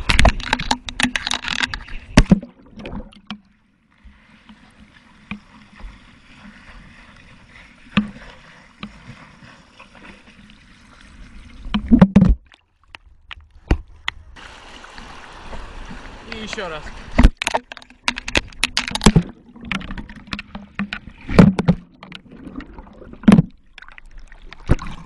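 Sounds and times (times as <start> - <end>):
muffled water sloshing: 0.0 - 25.0.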